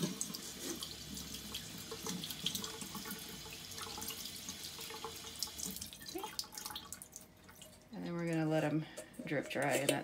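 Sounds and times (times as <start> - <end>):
faucet water running through strainer: 0.0 - 8.7.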